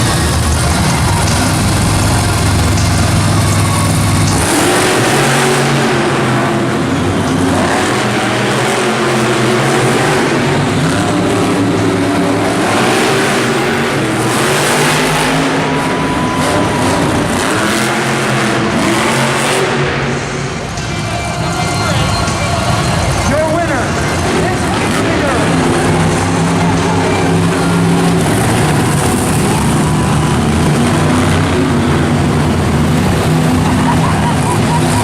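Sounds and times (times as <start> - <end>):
loud background noise: 0.0 - 35.0
truck engine revving: 0.0 - 35.0.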